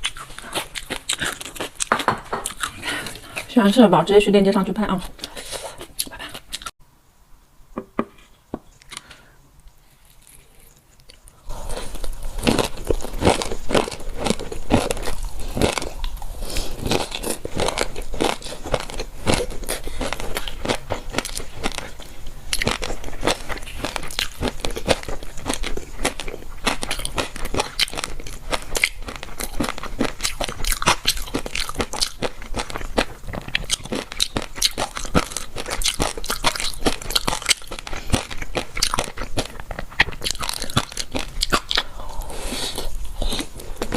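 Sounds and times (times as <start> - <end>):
crunchy chewing: 0.0 - 3.5, 8.8 - 43.9.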